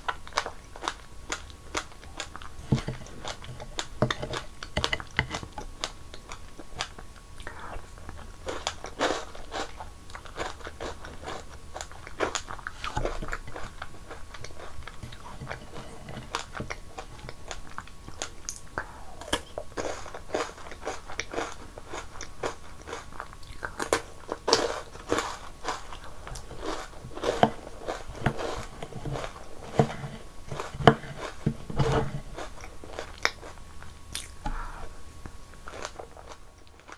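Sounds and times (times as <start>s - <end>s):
crunching and chewing snacks: 0.0s - 34.9s, 35.5s - 36.9s.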